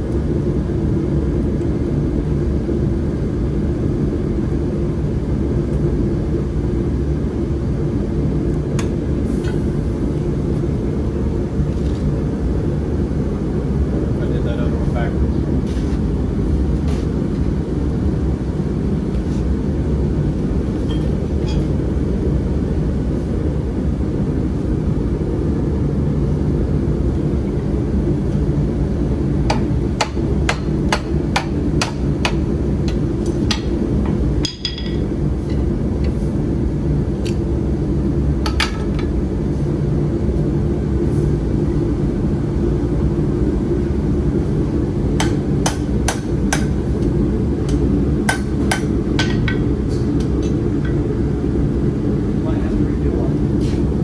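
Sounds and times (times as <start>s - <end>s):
low machine drone: 0.0s - 54.0s.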